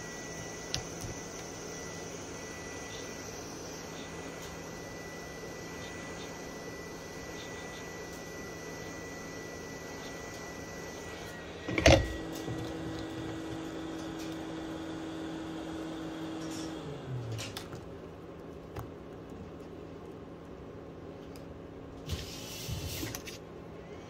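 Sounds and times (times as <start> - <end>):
heat gun fan motor humming: 0.0 - 24.0.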